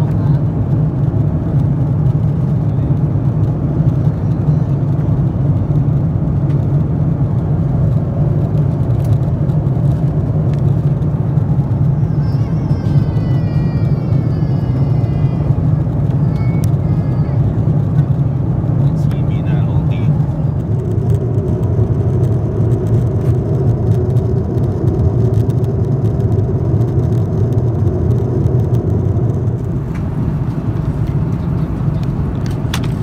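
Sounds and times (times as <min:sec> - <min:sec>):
aircraft cabin drone: 0:00.0 - 0:33.0.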